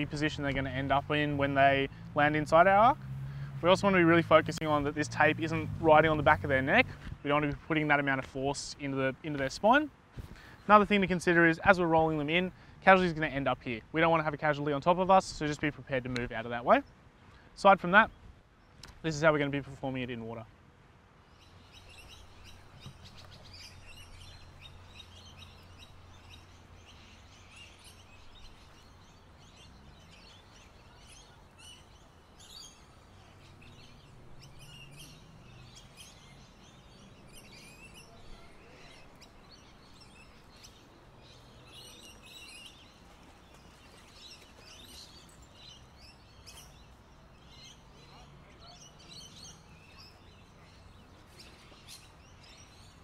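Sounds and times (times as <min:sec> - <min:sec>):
birds chirping: 0:00.0 - 0:20.5, 0:21.1 - 0:53.0.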